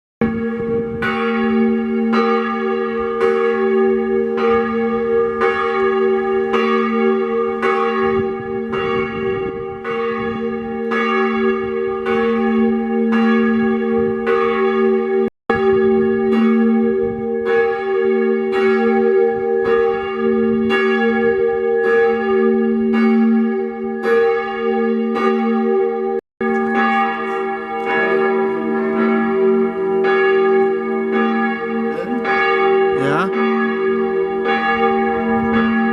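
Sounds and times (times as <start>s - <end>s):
church bells ringing: 0.2s - 35.9s.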